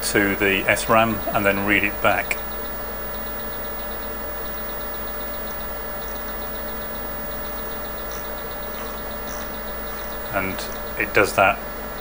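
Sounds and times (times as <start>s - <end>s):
faint high ticking: 0.0s - 12.0s
fan and electrical hum: 0.0s - 12.0s.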